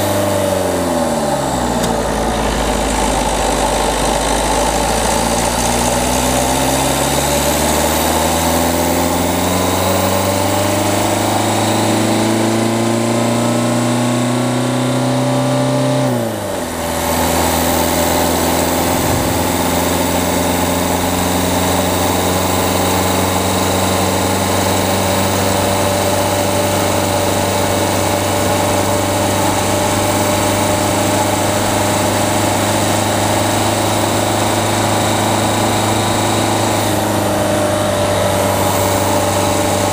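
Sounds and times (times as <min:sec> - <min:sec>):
diesel car engine revving: 0:00.0 - 0:39.9.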